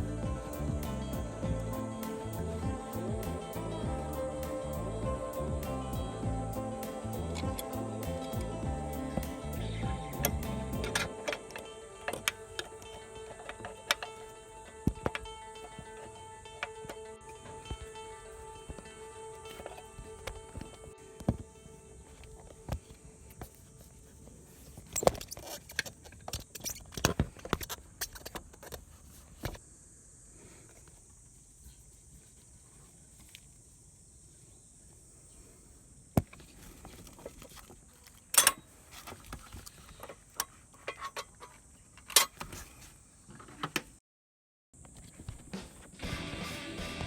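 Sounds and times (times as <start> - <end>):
faint steady high hiss: 0.0 - 44.0.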